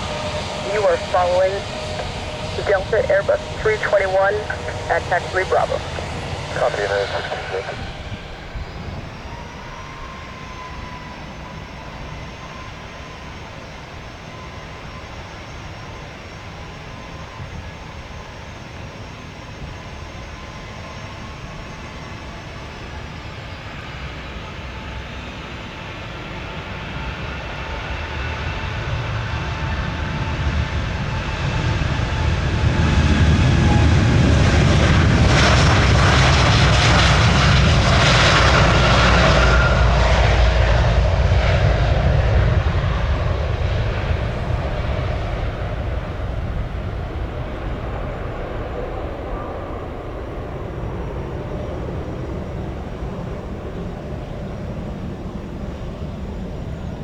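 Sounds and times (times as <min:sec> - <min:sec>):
jet engines whining: 0:00.0 - 0:57.0
jet roar: 0:00.0 - 0:57.0.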